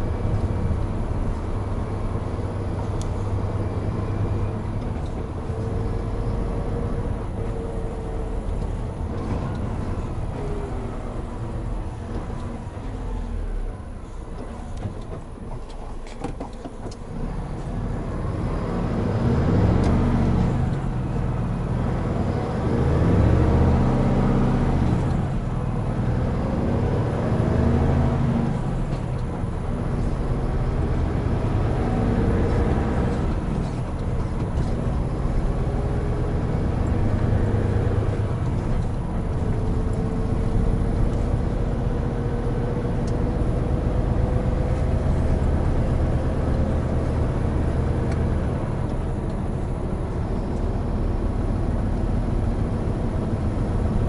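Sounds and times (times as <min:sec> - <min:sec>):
truck diesel engine accelerating: 0:00.0 - 0:54.0.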